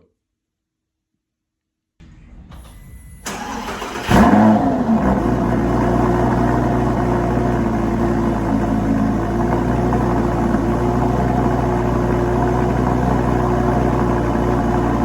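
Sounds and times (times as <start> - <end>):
car engine starting and idling: 2.0 - 15.0.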